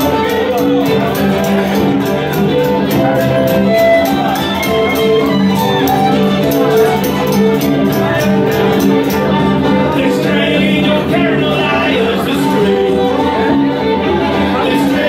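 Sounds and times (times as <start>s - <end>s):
acoustic guitar strumming: 0.0s - 15.0s
fiddle playing melody: 0.0s - 15.0s.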